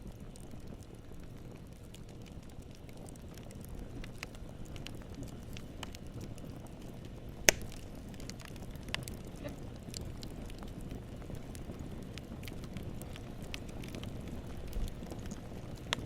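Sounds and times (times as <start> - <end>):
campfire flames rumbling: 0.0 - 16.0
wood popping: 2.2 - 16.0.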